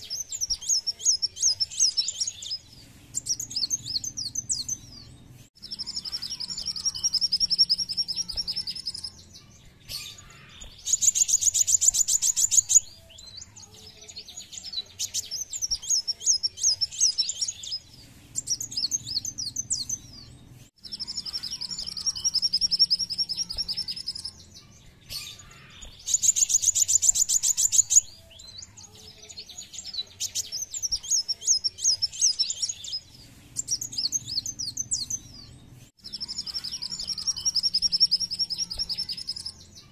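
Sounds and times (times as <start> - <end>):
sunbird song with trills and chirps: 0.0 - 39.9.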